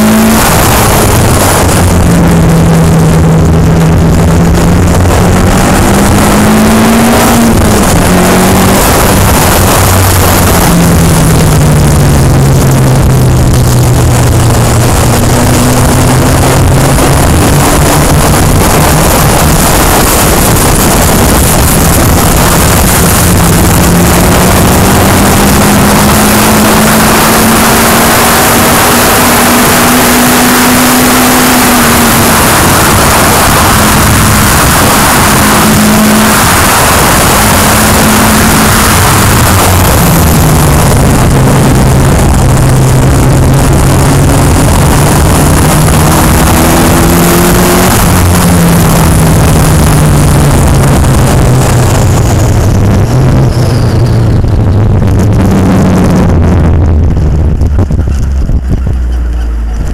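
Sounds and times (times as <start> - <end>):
race car engine: 0.0 - 59.9
wind and road noise: 0.0 - 59.9.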